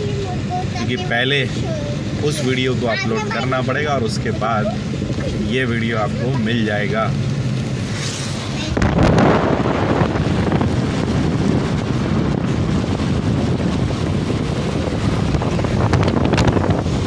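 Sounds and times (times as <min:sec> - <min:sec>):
road noise on wet highway: 0:00.0 - 0:17.0
wind rushing over microphone: 0:00.0 - 0:17.0.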